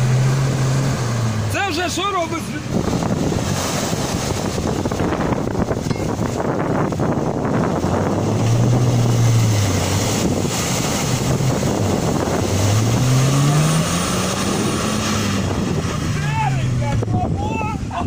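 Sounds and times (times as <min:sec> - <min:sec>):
truck engine revving under load: 0:00.0 - 0:17.4
mud and water churning: 0:00.0 - 0:18.0.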